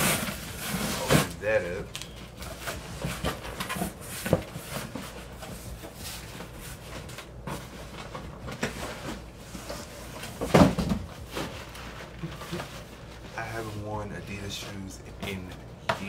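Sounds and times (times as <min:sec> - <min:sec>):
cardboard rustling: 0:00.0 - 0:15.6.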